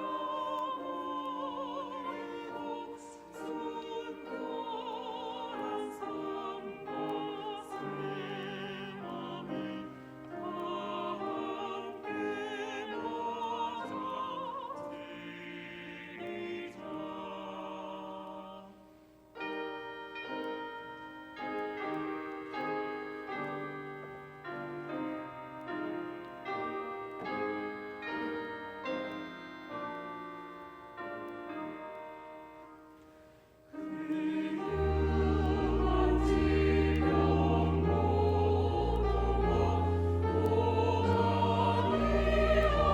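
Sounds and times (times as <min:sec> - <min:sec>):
piano chords: 0:00.0 - 0:18.7, 0:19.3 - 0:42.9
choir singing a hymn: 0:00.0 - 0:32.8, 0:33.7 - 0:42.9.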